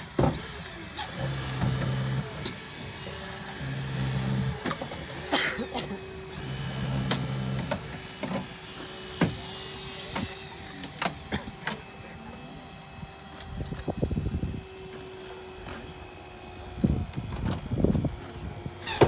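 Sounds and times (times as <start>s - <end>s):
hydraulic tool motor humming: 0.0s - 19.0s
steady whine: 0.0s - 19.0s.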